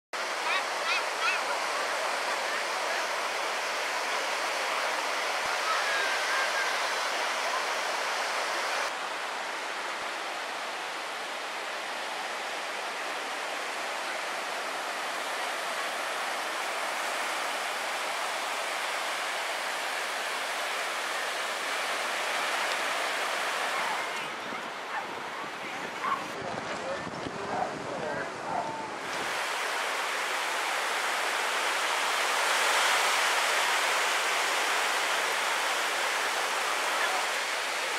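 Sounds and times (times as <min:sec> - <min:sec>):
ocean surf breaking: 0:00.2 - 0:37.9.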